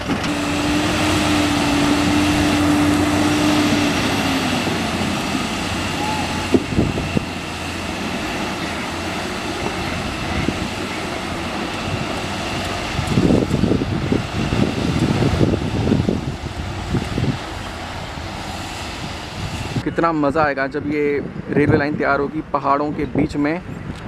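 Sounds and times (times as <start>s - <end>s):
truck diesel engine running: 0.0s - 19.8s.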